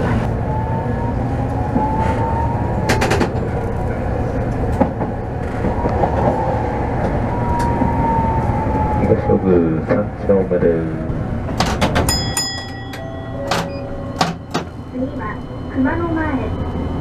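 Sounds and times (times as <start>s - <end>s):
streetcar wheels and motor rumble: 0.0s - 17.0s.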